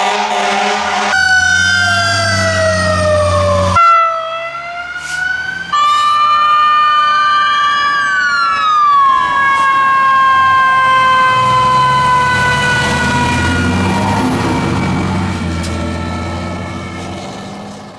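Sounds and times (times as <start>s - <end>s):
siren sliding down in pitch: 0.0s - 17.2s
siren sweeping up and down: 0.0s - 17.3s
heavy truck engine rumbling: 0.0s - 17.9s.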